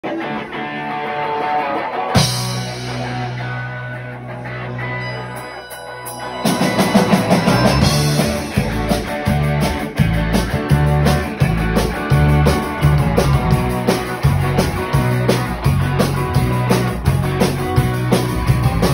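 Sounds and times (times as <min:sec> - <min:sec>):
rock band playing: 0:00.0 - 0:18.9
guitar chord ringing: 0:00.4 - 0:18.2.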